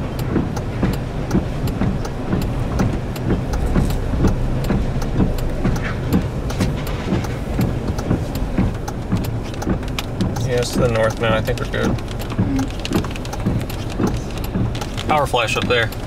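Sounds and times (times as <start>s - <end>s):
engine idling: 0.0s - 16.0s
sharp ticks: 0.0s - 16.0s.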